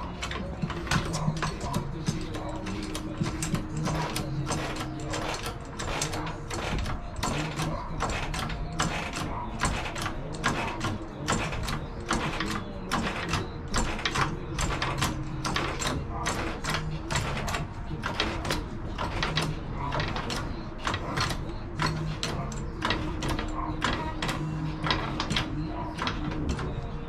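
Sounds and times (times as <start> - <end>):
floor jack pumping clicks: 0.0 - 27.0.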